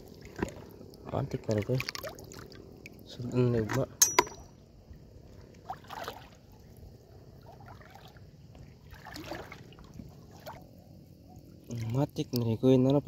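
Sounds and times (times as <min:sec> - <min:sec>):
shallow water splashing: 0:00.0 - 0:03.8, 0:05.1 - 0:12.5.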